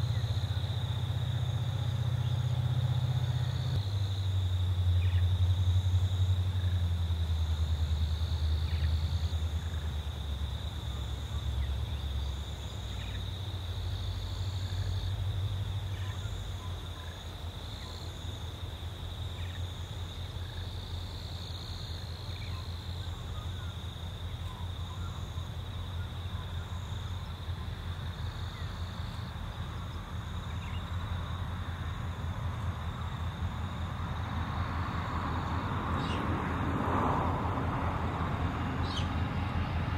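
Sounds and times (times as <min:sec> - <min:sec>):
distant diesel locomotive rumble: 0:00.0 - 0:39.9
faint high insect chirp: 0:00.0 - 0:39.9
insects buzzing: 0:00.0 - 0:39.9.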